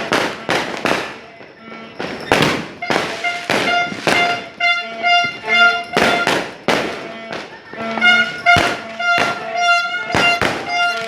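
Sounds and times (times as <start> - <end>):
firecrackers banging: 0.0 - 11.0
horn-like tooting blasts: 1.5 - 11.0.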